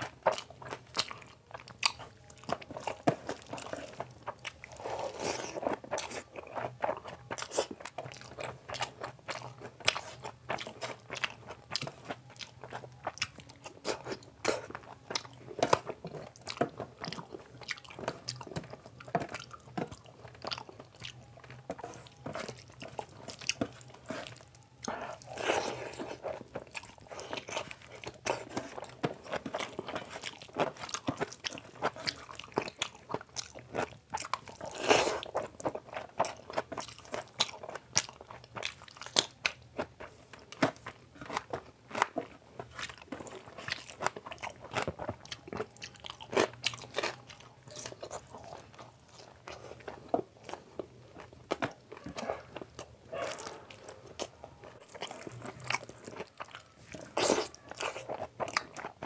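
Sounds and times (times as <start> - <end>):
chewing with wet mouth clicks: 0.0 - 59.0.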